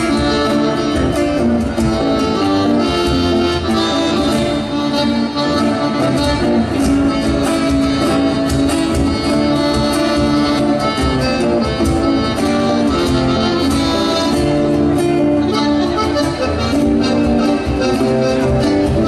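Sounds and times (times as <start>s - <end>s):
folk music on accordion: 0.0s - 19.0s
guitar accompaniment: 0.0s - 19.0s.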